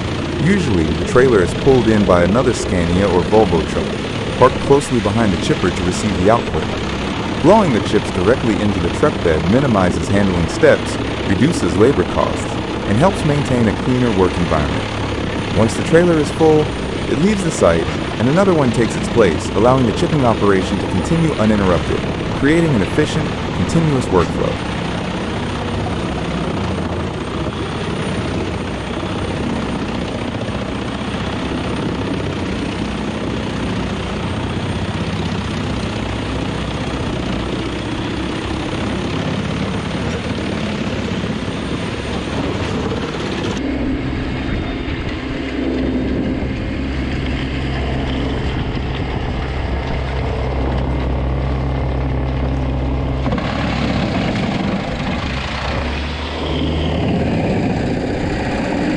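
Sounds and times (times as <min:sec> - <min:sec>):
low engine drone: 0:00.0 - 0:58.9
wood chipper mechanical din: 0:00.0 - 0:58.9.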